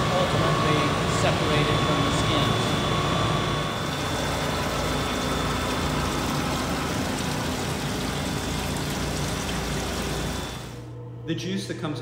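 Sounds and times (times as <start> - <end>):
machinery low hum: 0.0 - 12.0.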